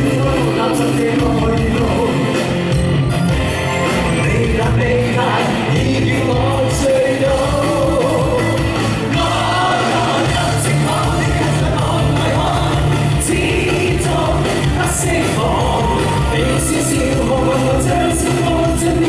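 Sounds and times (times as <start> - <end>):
man and woman singing: 0.0 - 2.4, 4.1 - 19.0
live pop-rock band playing: 0.0 - 19.0.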